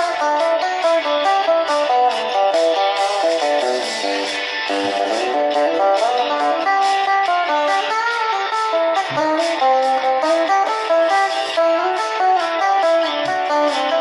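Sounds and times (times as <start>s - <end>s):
guitar melody over chords: 0.0s - 14.0s.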